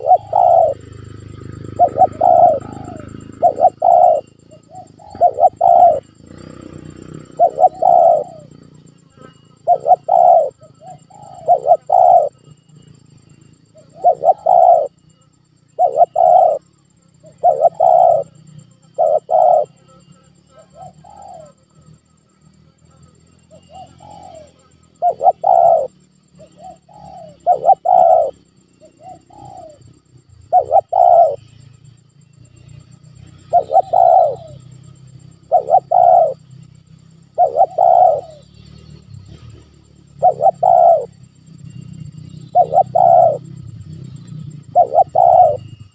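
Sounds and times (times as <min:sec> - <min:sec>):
dove cooing: 0:00.0 - 0:21.9, 0:23.4 - 0:31.7, 0:32.6 - 0:45.9.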